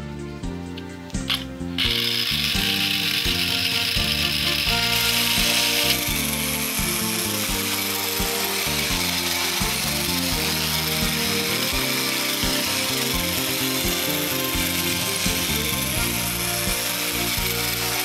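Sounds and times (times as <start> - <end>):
background music: 0.0 - 18.0
toy train motor whirring: 0.7 - 18.0
mechanical rattle: 1.1 - 18.0.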